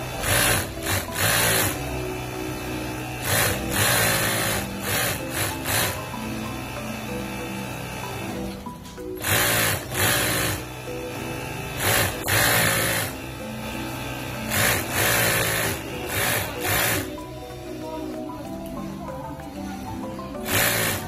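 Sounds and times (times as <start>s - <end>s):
sewing machine stitching: 0.0s - 17.2s, 20.4s - 21.0s
background music: 0.0s - 21.0s.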